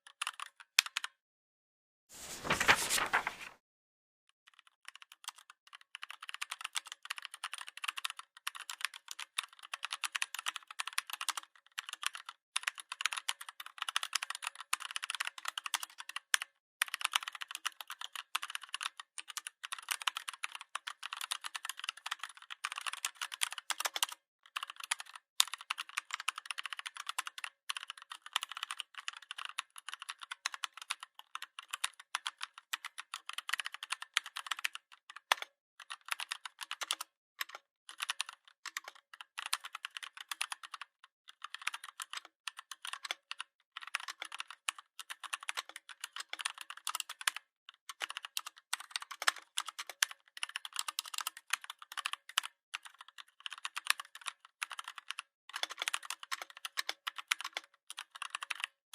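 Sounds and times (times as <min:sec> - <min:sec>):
typing on computer keyboard: 0:00.0 - 0:01.2, 0:04.5 - 0:58.8.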